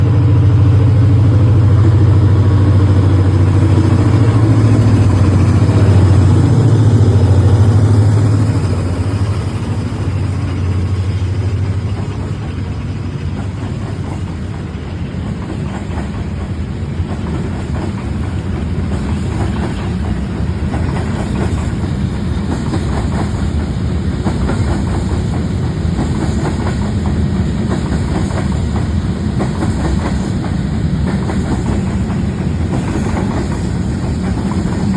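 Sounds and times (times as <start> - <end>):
locomotive engine hum: 0.0 - 34.9
train wagons rumbling: 0.0 - 34.9
wheels clattering over rails: 1.5 - 34.9.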